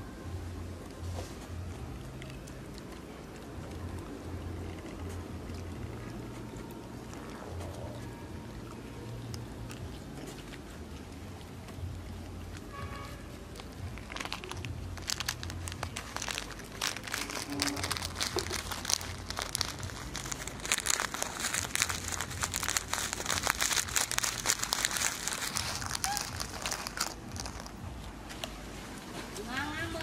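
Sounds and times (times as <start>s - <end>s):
dense crackling and crinkling: 0.0s - 30.0s
low steady hum: 0.0s - 30.0s.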